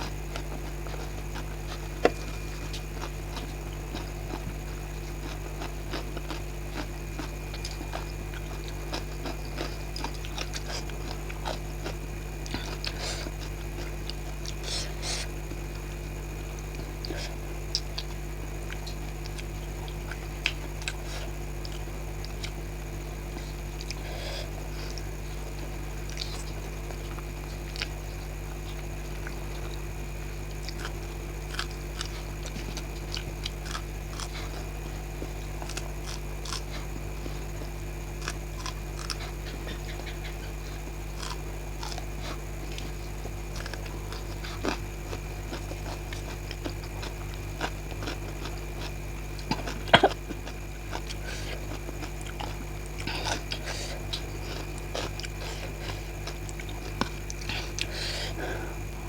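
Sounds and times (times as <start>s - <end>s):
person chewing and smacking: 0.0s - 29.8s, 30.4s - 59.0s
electrical hum: 0.0s - 59.0s.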